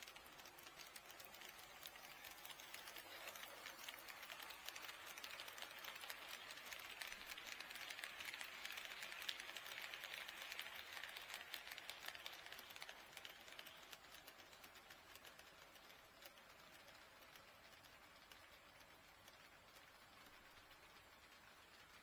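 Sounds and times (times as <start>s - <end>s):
model train wheels clicking: 0.0s - 22.0s.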